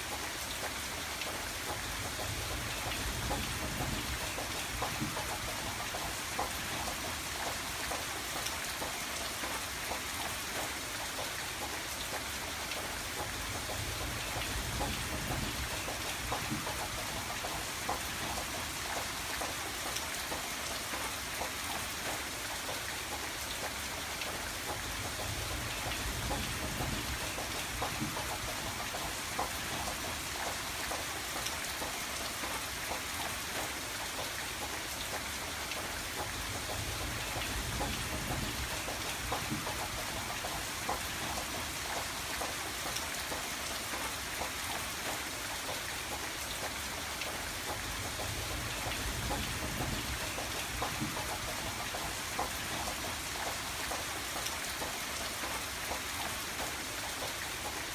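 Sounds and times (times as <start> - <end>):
rain on a window: 0.0 - 57.9.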